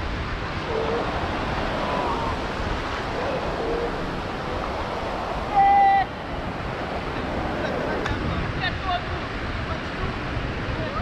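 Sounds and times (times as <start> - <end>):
surf washing: 0.0 - 11.0
wind: 0.0 - 11.0.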